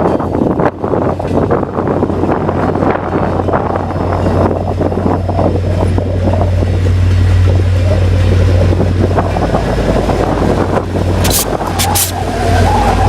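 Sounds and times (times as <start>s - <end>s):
passenger train running by: 0.0s - 13.0s
wind on microphone: 0.0s - 13.0s.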